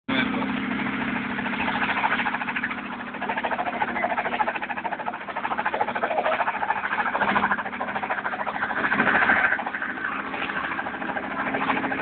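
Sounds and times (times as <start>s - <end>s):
helicopter rotor chopping: 0.1s - 12.0s.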